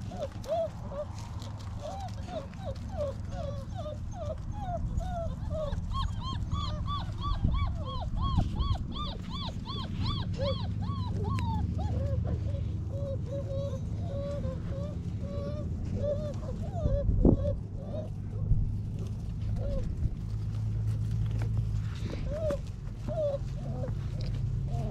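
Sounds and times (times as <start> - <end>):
dog whining: 0.0 - 18.5, 19.5 - 20.0, 22.0 - 24.9.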